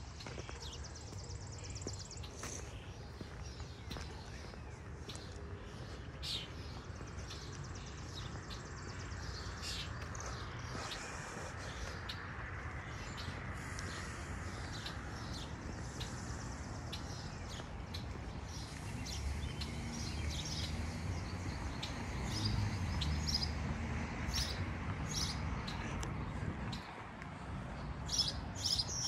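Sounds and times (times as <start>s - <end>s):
small songbirds chirping: 0.0s - 29.0s
steady outdoor hiss: 0.0s - 29.0s.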